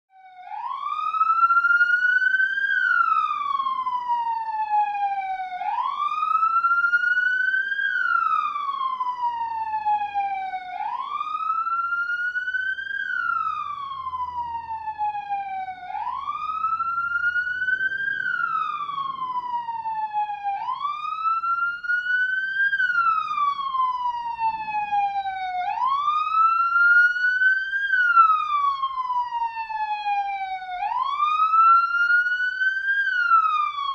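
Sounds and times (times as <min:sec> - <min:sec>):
police siren wailing: 0:00.1 - 0:33.9.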